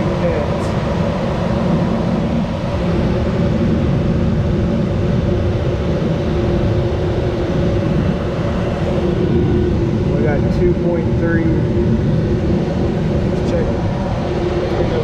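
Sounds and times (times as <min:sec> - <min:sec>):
furnace blower rumbling: 0:00.0 - 0:15.0
low hum: 0:00.0 - 0:15.0.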